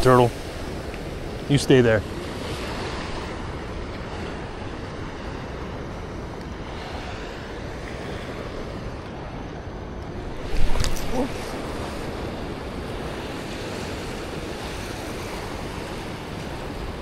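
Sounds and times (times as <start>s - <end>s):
surf washing on shore: 0.0s - 17.0s
wind on microphone: 0.0s - 17.0s.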